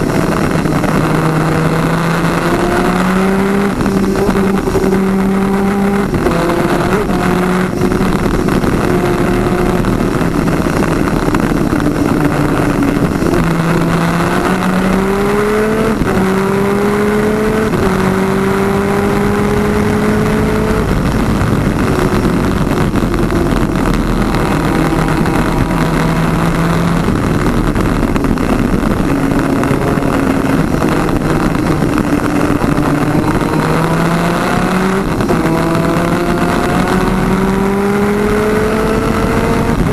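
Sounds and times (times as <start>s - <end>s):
kart engine revving through gears: 0.0s - 39.9s
wind and road noise: 0.0s - 39.9s.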